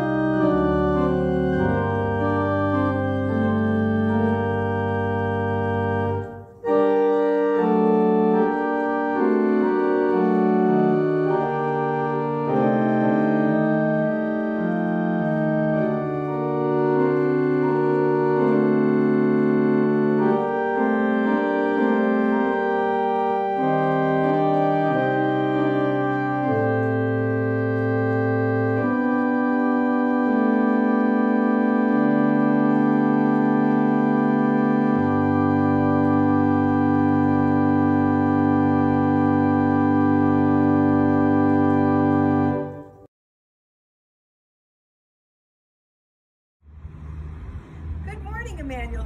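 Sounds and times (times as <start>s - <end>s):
church organ chords: 0.0s - 43.1s.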